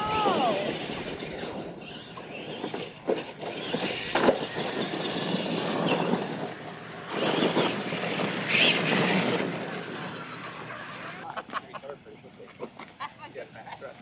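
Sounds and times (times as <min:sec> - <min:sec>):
toy truck motor and gear whine: 0:00.0 - 0:11.3.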